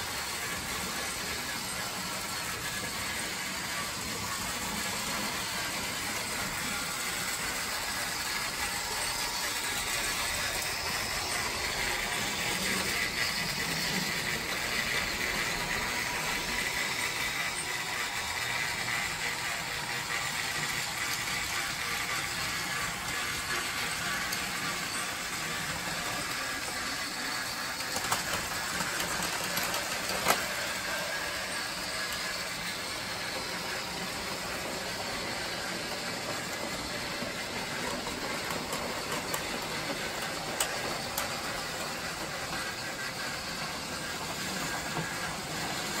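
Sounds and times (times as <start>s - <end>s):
toy train motor whirring: 0.0s - 46.0s.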